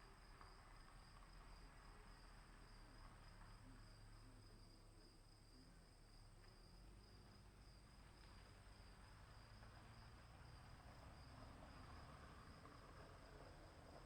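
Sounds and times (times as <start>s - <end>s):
faint crickets trilling: 0.0s - 14.0s.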